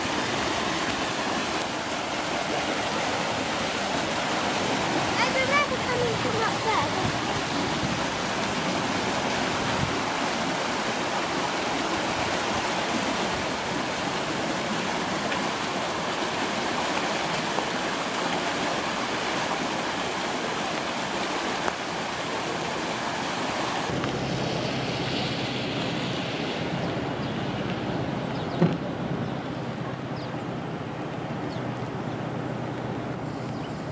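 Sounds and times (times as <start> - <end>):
flooded stream rushing: 0.0 - 33.9.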